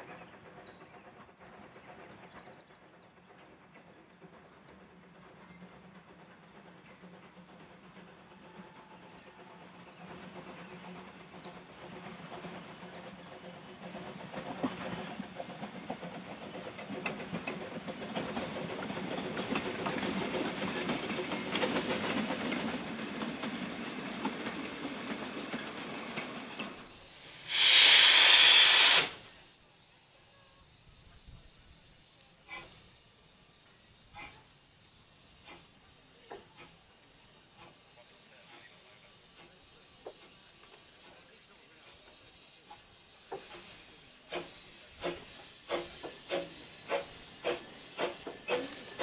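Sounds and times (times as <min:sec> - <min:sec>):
hissing steam: 0:00.0 - 0:49.0
steam locomotive passing: 0:00.0 - 0:49.0.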